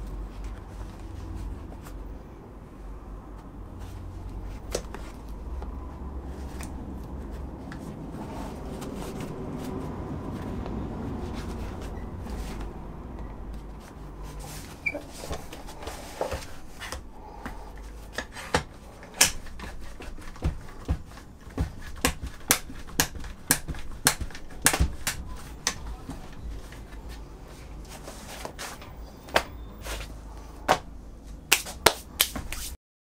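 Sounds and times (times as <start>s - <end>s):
handling and rustling: 0.0s - 2.4s, 3.2s - 32.8s.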